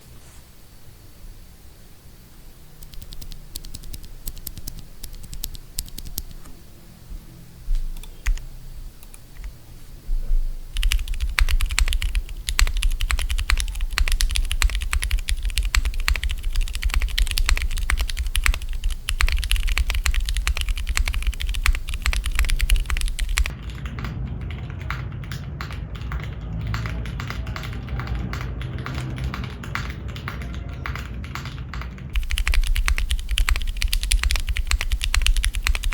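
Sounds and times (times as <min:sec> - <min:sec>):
mechanical keyboard typing: 0:02.7 - 0:06.5, 0:07.8 - 0:09.6, 0:10.7 - 0:35.9.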